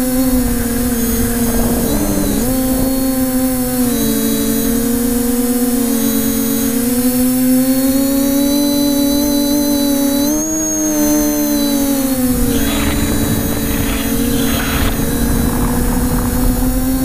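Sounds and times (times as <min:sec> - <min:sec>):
drone motors humming and whining: 0:00.0 - 0:17.0.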